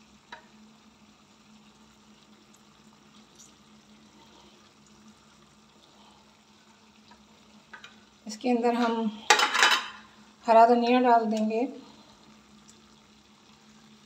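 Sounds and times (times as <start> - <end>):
pot simmering with faint bubbling: 0.0 - 14.0.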